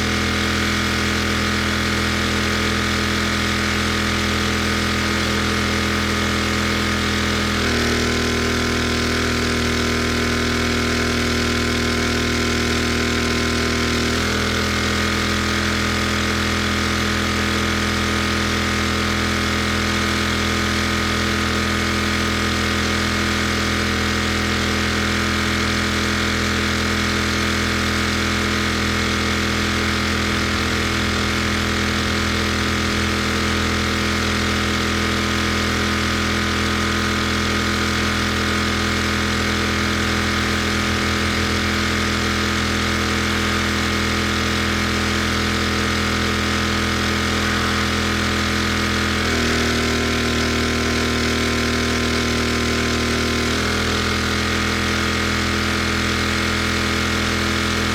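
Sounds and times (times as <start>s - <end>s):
pressure washer engine running: 0.0s - 57.9s.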